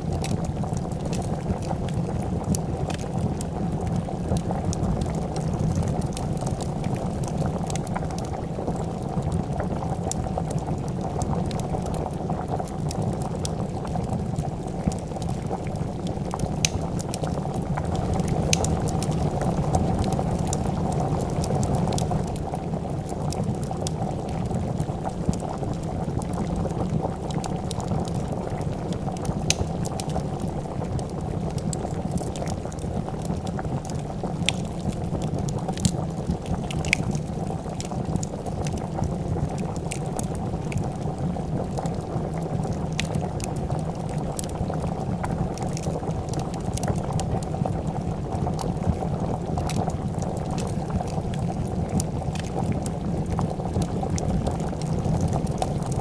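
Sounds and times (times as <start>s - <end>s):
soup bubbling in a pot: 0.0s - 56.0s
wood fire crackling: 0.0s - 56.0s.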